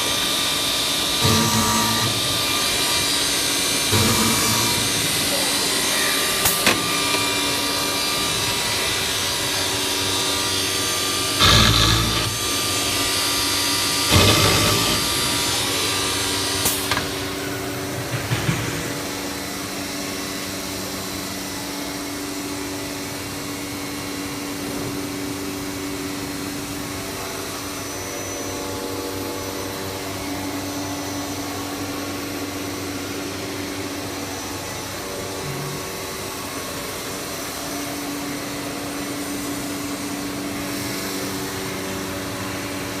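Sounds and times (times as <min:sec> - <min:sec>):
cnc router running: 0:00.0 - 0:43.0.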